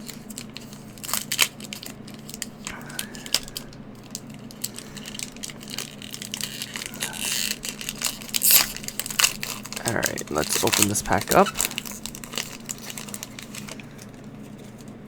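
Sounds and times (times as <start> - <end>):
cards and foil pack crinkling: 0.0 - 15.0.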